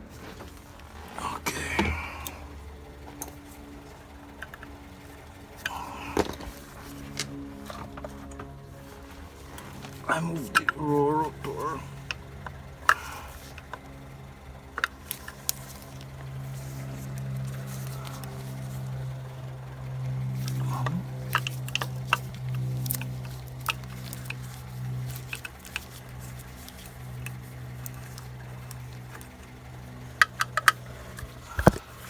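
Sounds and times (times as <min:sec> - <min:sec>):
low hum: 0:00.0 - 0:32.0
light clicks of parts handled: 0:00.1 - 0:32.0.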